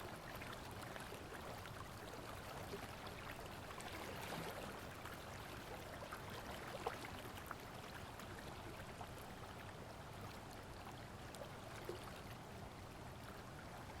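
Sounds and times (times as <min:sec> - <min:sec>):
faint trickling water: 0:00.0 - 0:14.0
light water drips: 0:00.0 - 0:14.0.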